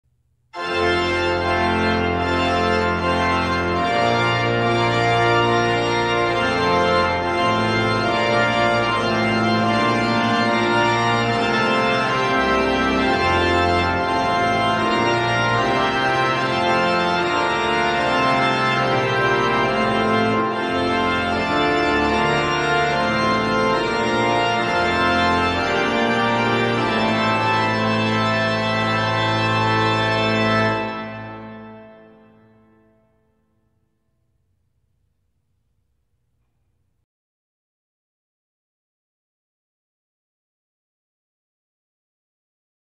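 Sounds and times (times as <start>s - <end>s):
organ playing slow chords: 0.2s - 36.9s.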